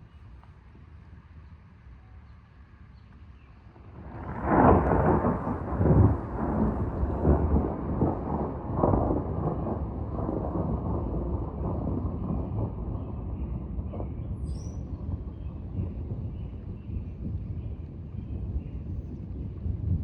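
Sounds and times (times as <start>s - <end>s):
thunder rumbling: 3.9s - 20.0s.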